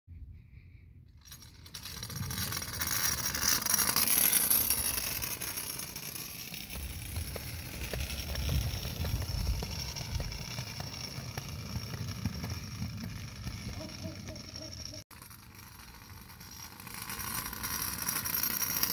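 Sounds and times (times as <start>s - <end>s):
kick scooters rattling over pavement: 1.3s - 18.9s.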